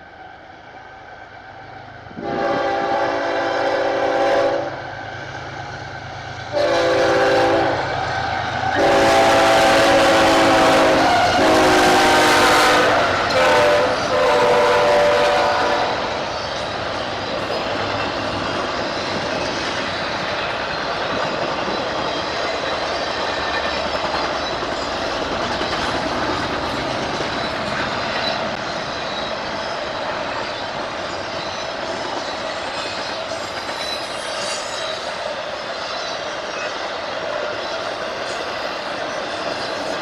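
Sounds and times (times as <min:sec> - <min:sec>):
train wheels on rails: 0:00.0 - 0:40.0.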